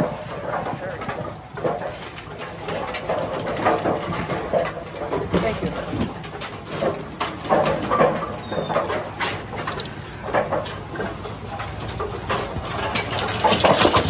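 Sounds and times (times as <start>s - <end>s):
clanks of metal and pins: 0.0s - 14.0s.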